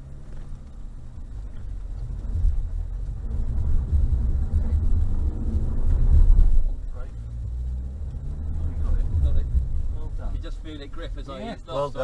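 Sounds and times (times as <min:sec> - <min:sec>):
deep engine rumble under load: 0:00.0 - 0:12.0.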